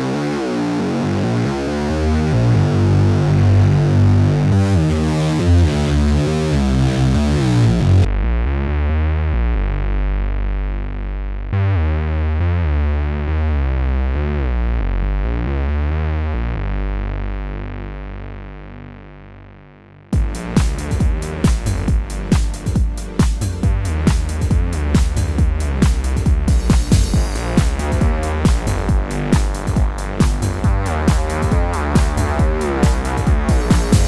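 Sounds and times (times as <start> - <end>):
distorted synthesizer bass pattern: 0.0 - 34.0.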